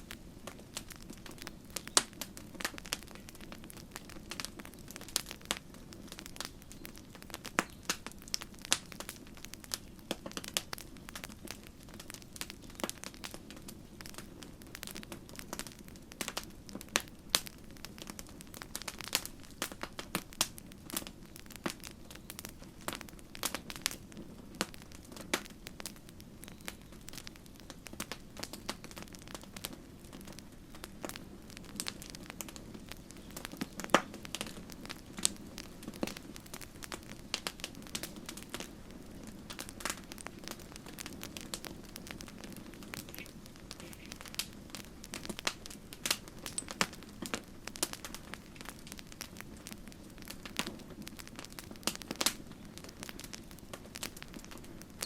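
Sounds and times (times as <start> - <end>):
hiss and rumble of flames: 0.0 - 55.0
wood crackling and popping: 0.0 - 55.0.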